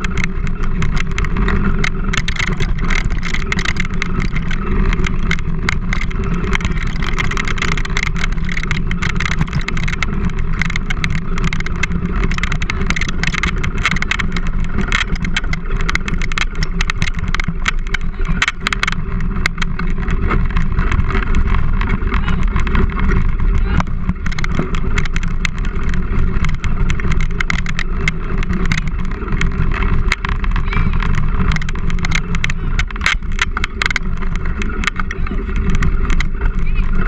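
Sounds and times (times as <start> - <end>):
rattles and knocks from bumps: 0.0 - 37.0
wheels rumbling over dirt trail: 0.0 - 37.0.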